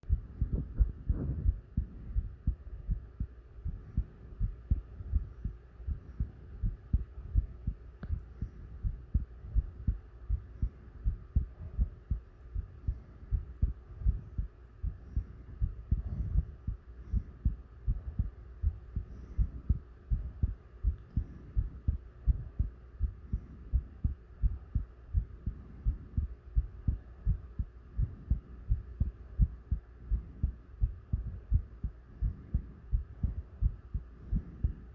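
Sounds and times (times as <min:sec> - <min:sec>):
faint hum: 0:00.0 - 0:34.9
heartbeat thumps: 0:00.0 - 0:34.9.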